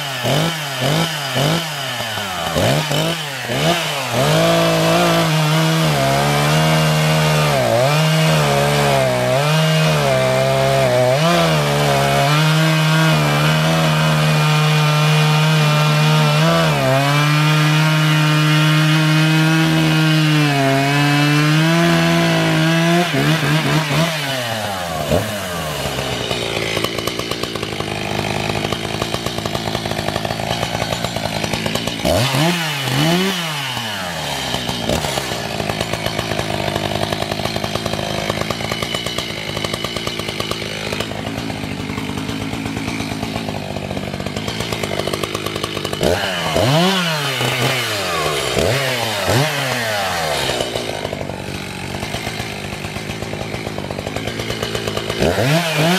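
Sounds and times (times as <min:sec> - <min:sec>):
chainsaw cutting log: 0:00.0 - 0:55.9
chainsaw idling and revving: 0:00.0 - 0:55.9.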